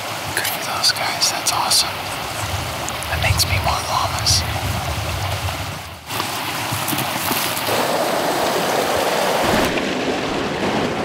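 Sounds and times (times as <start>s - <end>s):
creek rushing over rocks: 0.0s - 10.1s.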